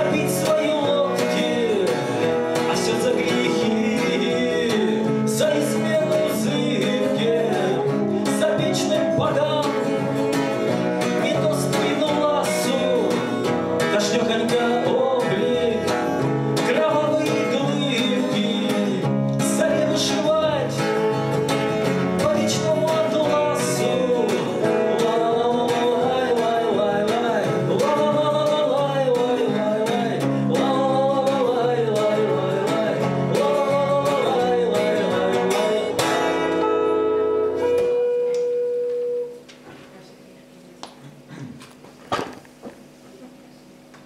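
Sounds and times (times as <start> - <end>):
rock guitars playing: 0.0 - 39.6.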